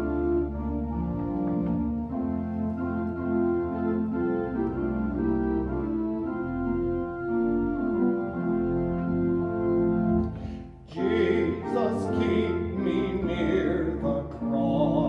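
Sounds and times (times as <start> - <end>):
organ playing sustained chords: 0.0 - 15.0.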